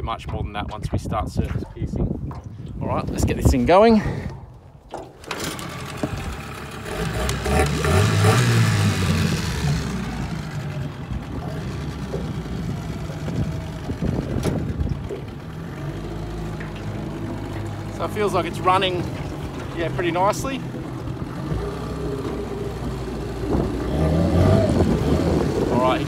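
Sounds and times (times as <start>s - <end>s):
outboard motor starting and idling: 3.9s - 26.0s.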